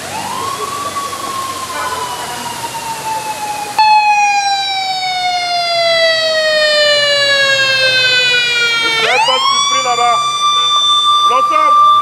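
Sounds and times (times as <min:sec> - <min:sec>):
motorcycle siren wailing: 0:00.0 - 0:12.0.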